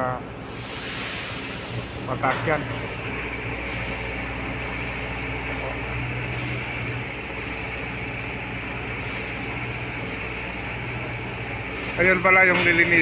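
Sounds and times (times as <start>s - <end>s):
low drone: 0.0s - 13.0s
machinery humming: 0.0s - 13.0s.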